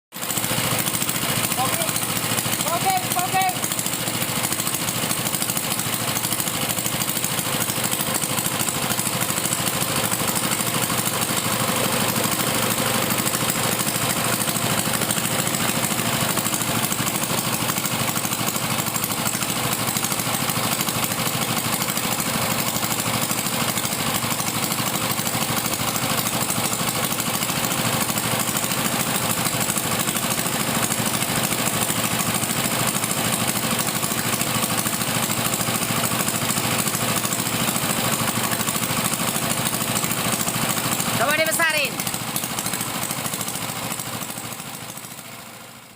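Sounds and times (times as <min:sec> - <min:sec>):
plate compactor engine running: 0:00.1 - 0:45.9.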